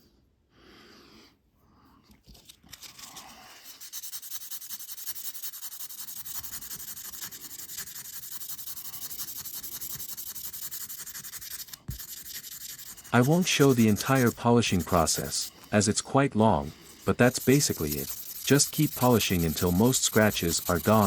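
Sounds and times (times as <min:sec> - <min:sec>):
sandpaper rubbing on metal: 0:02.9 - 0:15.6, 0:16.6 - 0:21.0.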